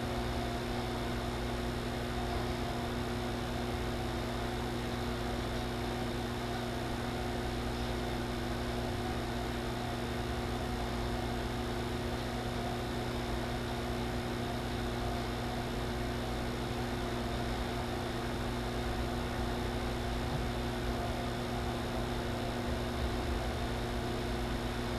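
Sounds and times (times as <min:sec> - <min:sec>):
electrical hum: 0:00.0 - 0:24.9.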